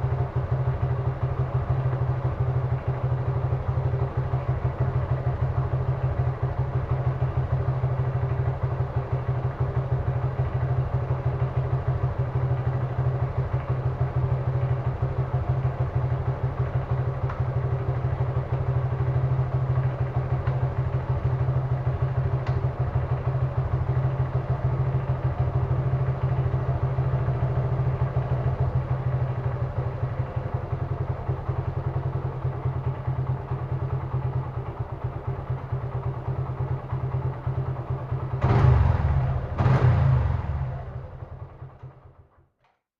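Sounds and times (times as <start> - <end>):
motorcycle engine idling: 0.0 - 42.6.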